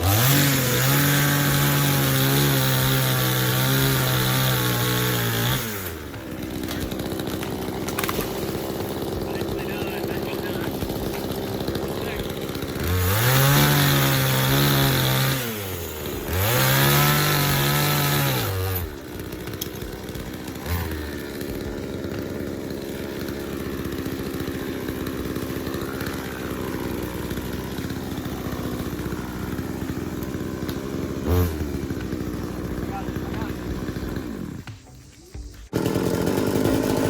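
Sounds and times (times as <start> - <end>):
chainsaw revving and idling: 0.0 - 37.0.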